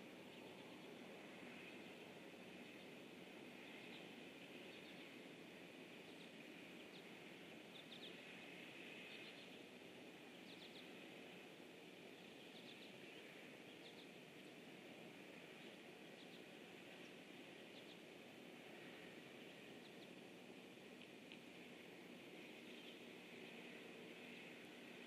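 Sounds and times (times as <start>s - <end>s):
steady low hiss: 0.0s - 25.0s.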